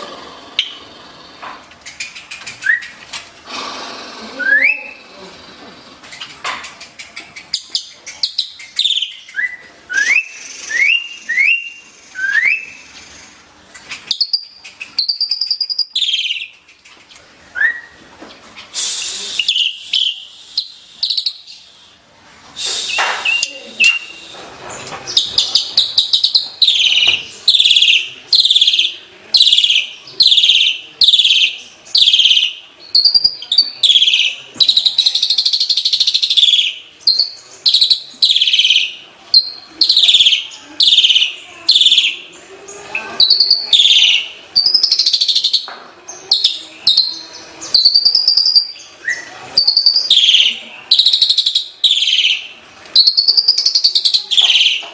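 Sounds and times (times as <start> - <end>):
starling singing: 4.2 - 16.8, 19.2 - 21.7, 22.8 - 54.9.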